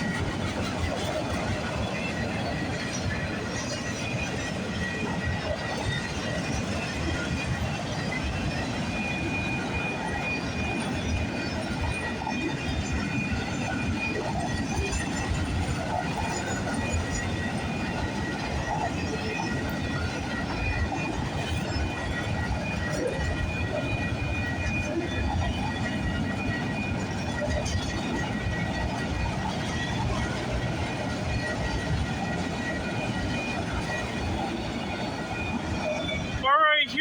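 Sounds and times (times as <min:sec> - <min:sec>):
train cars rumbling on rails: 0:00.0 - 0:37.0.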